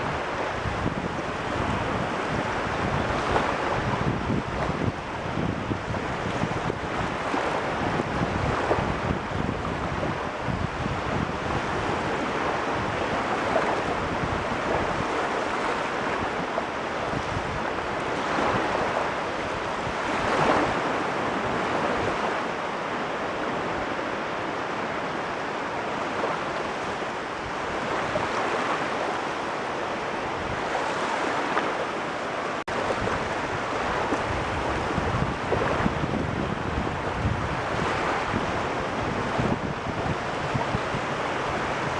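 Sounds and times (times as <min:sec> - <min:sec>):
sea waves washing in: 0:00.0 - 0:41.9
wind buffeting microphone: 0:00.0 - 0:41.9.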